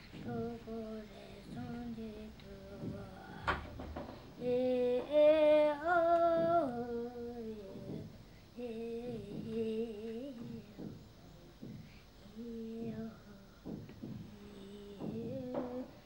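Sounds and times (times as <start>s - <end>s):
boy chanting in sing-song: 0.0s - 16.0s.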